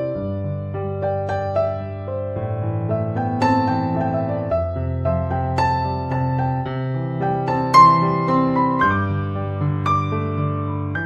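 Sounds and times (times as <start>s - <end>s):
soft electric piano melody: 0.0s - 11.0s.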